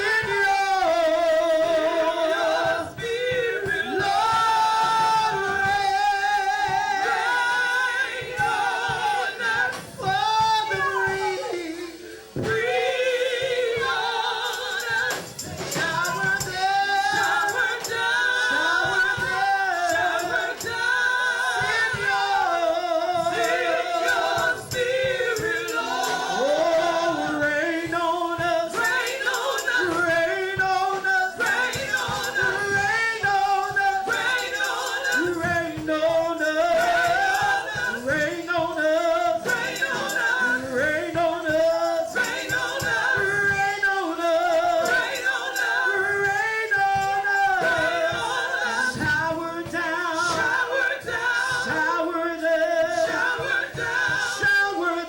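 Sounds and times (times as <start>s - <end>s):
group singing worship song: 0.0s - 55.0s.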